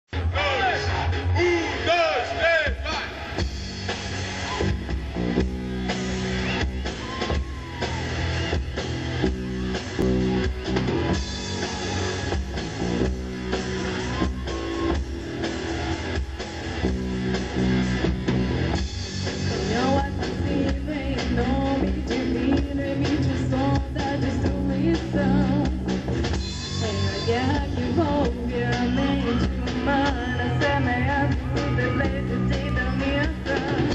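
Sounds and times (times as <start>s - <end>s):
drum kit beat: 2.7s - 33.9s
rock guitar chords: 2.7s - 33.9s.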